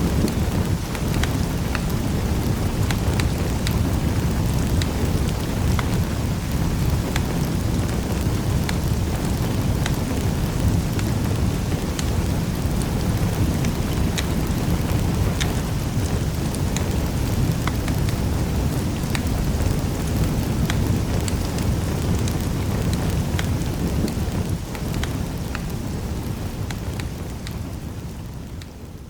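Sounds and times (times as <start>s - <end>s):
fire crackles and pops: 0.0s - 29.0s
fire rumbling in fireplace: 0.0s - 29.0s.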